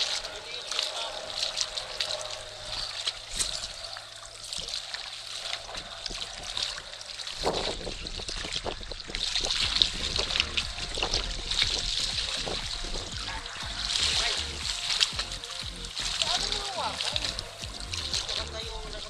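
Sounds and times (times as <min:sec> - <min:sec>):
water lapping and trickling: 0:00.0 - 0:19.0
water splashing: 0:00.0 - 0:19.0.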